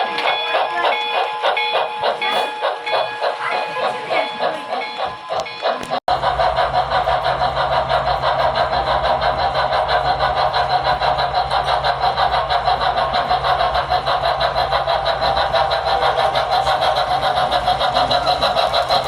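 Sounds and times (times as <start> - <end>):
model steam locomotive chuffing: 0.0 - 19.0.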